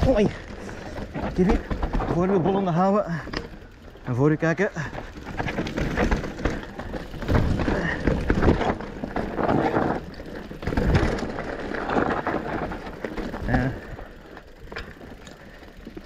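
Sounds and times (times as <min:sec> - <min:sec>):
bike knocking over bumps: 0:00.0 - 0:04.2, 0:04.8 - 0:16.0
mountain bike rattling over dirt: 0:00.0 - 0:16.0.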